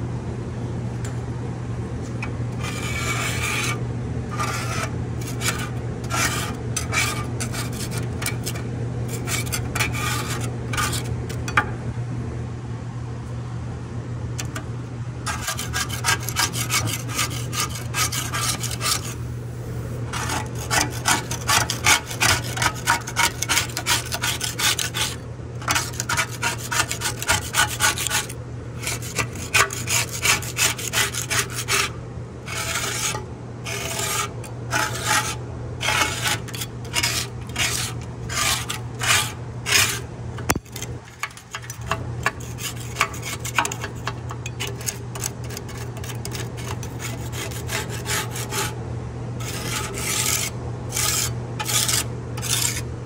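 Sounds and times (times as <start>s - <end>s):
hand scraping strokes: 2.6s - 11.1s, 15.2s - 48.8s, 49.4s - 52.8s.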